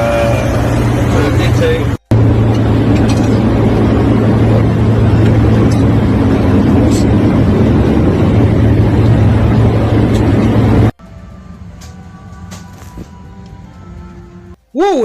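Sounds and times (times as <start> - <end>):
jet engine cabin hum: 0.0 - 14.6.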